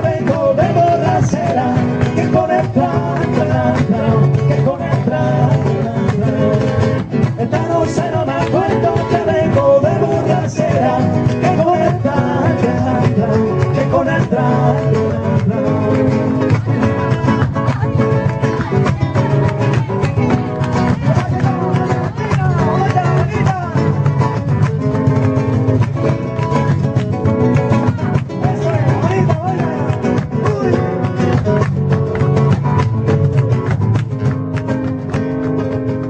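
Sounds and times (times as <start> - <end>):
flamenco guitar playing: 0.0 - 36.0.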